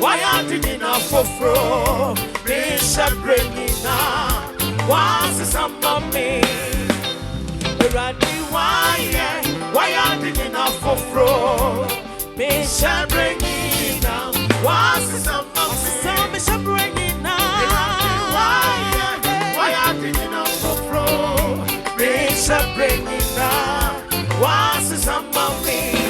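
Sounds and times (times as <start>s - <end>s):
upbeat gospel music: 0.0s - 26.0s.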